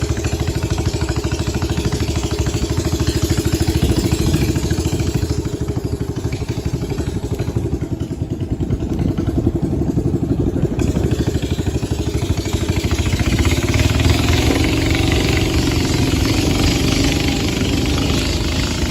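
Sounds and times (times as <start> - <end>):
boat engine pulsing: 0.0 - 18.9.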